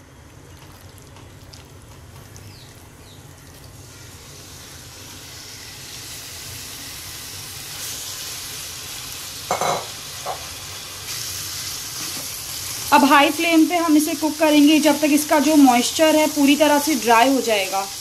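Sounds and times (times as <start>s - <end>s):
chicken sizzling in hot oil: 3.3s - 18.0s.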